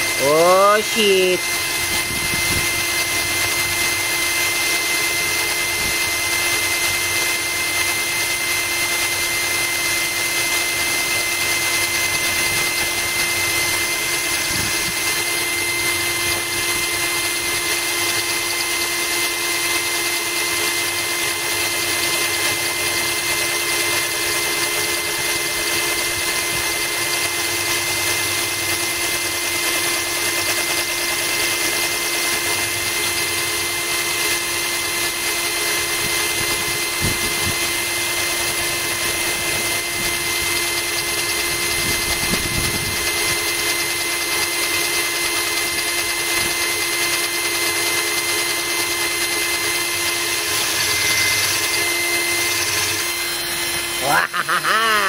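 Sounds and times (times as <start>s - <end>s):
drill bit grinding into glass: 0.0s - 55.0s.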